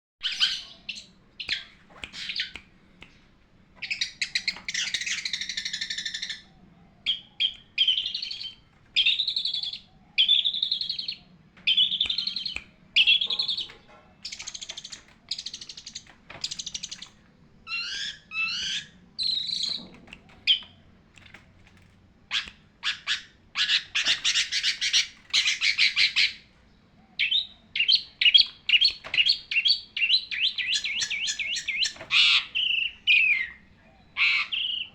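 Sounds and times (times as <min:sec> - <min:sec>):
bird singing varied song: 0:00.2 - 0:20.9, 0:22.3 - 0:34.9.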